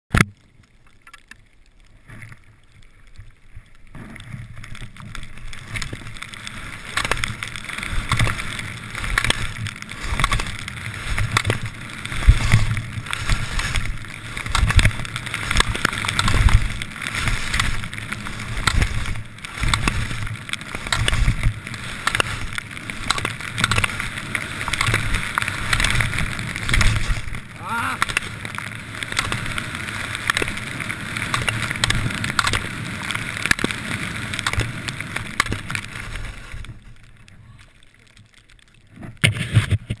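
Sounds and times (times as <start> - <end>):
skis swishing on snow: 4.0 - 38.0, 38.9 - 40.0.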